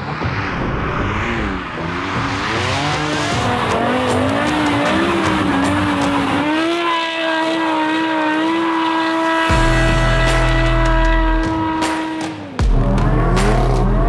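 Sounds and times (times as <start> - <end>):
car engine revving: 0.0 - 14.0
tyres skidding: 1.4 - 14.0.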